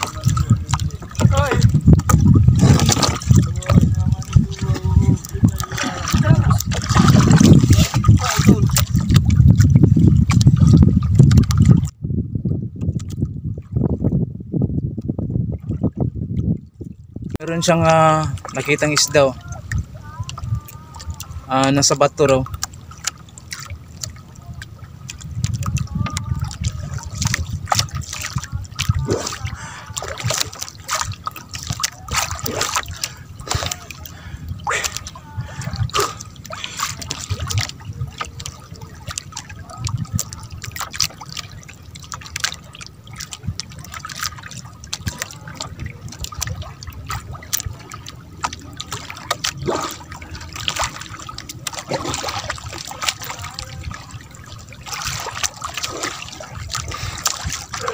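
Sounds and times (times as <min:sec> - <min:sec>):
low rumble: 0:00.0 - 0:57.9
sea water sloshing and splashing: 0:00.0 - 0:57.9.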